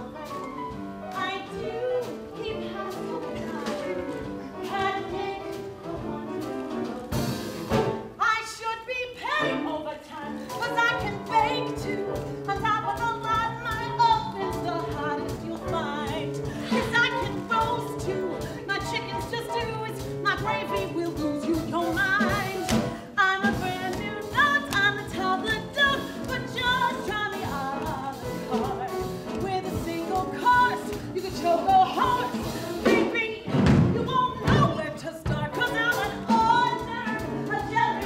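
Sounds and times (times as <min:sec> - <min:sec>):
instrumental accompaniment: 0:00.0 - 0:08.2, 0:09.4 - 0:38.0.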